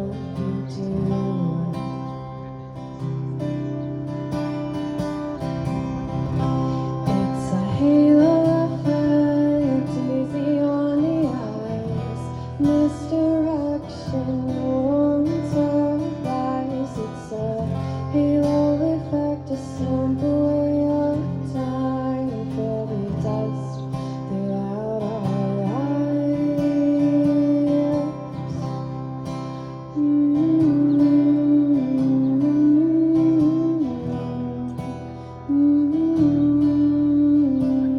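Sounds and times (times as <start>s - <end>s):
strummed acoustic guitar: 0.0s - 37.9s.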